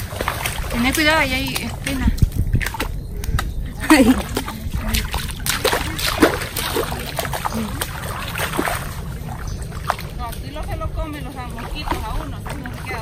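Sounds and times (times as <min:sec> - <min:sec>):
footsteps squelching in mud: 0:00.0 - 0:13.0.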